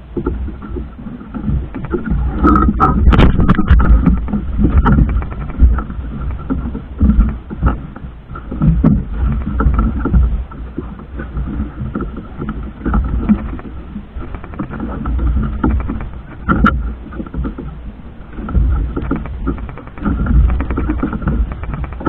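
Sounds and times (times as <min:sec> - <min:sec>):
motorboat engine droning: 0:00.0 - 0:22.0
wind gusting on microphone: 0:00.0 - 0:22.0.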